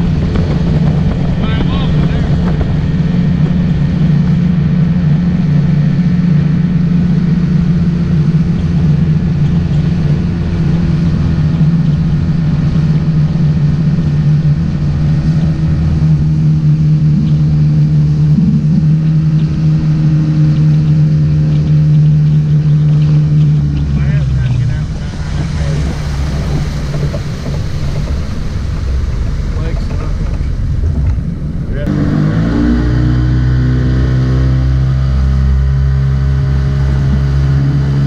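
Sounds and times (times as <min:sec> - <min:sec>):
motorboat engine running: 0:00.0 - 0:38.0.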